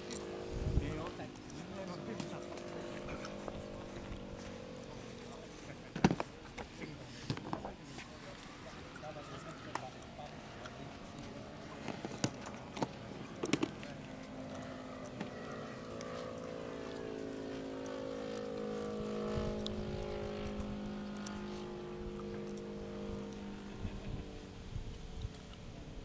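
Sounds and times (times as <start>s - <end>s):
model plane motor humming: 0.0s - 26.0s.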